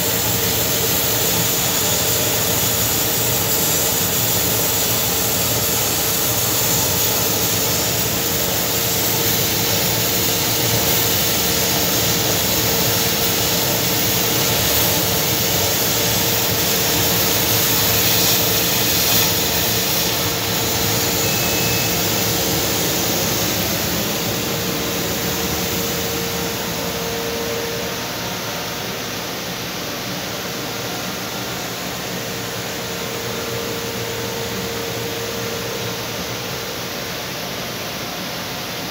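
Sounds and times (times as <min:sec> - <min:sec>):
laser cutter fans rushing air: 0:00.0 - 0:38.9
steady machine hum: 0:00.0 - 0:38.9.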